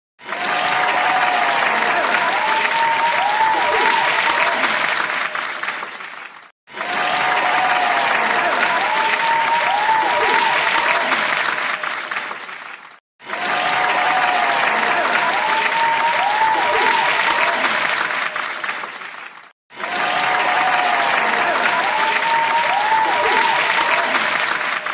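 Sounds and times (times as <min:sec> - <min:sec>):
audience clapping: 0:00.2 - 0:24.9.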